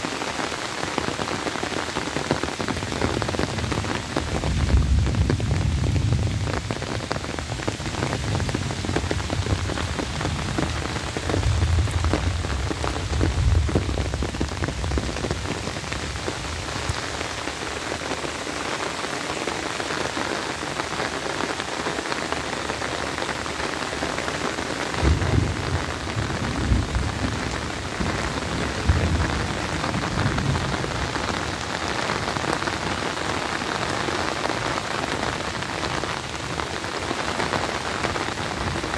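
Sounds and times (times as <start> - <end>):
steady rain on grass: 0.0 - 38.9.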